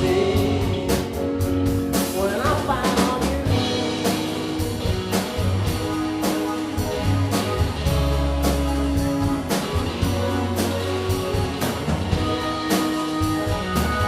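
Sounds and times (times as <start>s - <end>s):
drum kit beat: 0.0s - 14.0s
live band playing: 0.0s - 14.0s.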